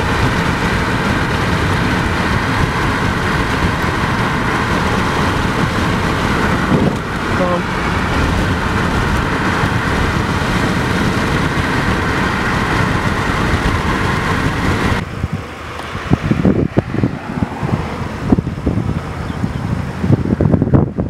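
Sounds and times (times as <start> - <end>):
road and wind noise of vehicle: 0.0 - 21.0
wind buffeting microphone: 0.0 - 21.0.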